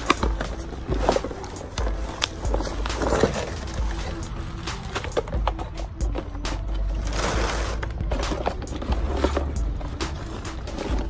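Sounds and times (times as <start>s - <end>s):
background music: 0.0s - 11.0s
bubble wrap and cardboard crinkling: 0.0s - 11.0s.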